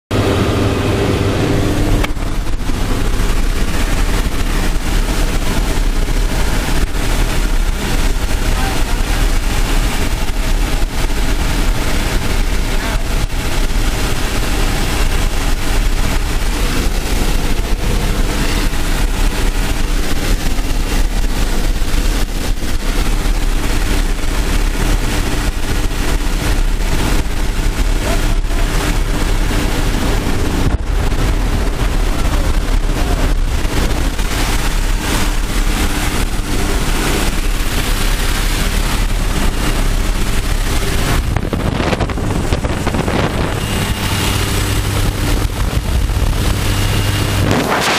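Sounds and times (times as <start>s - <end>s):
airplane engine and propeller drone: 0.1s - 47.9s
rushing air: 0.1s - 47.9s.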